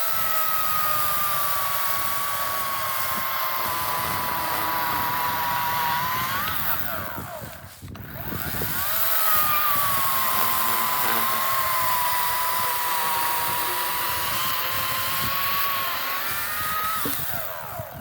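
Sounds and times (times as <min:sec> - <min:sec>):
electric chainsaw whining: 0:00.0 - 0:18.0.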